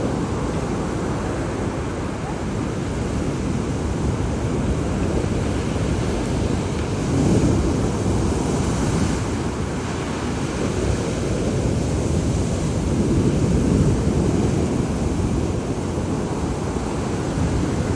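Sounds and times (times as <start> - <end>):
storm waves breaking: 0.0 - 17.9
wind buffeting microphone: 0.0 - 17.9.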